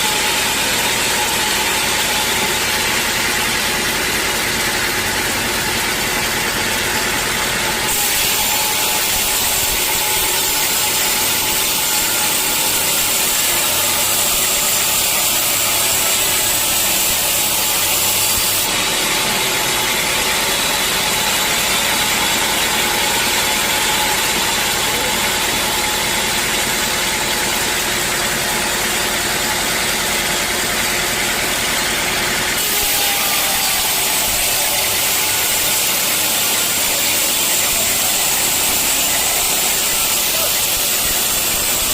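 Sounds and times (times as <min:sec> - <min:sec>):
saw cutting wood: 0:00.0 - 0:41.9
sawmill motor droning: 0:00.0 - 0:41.9.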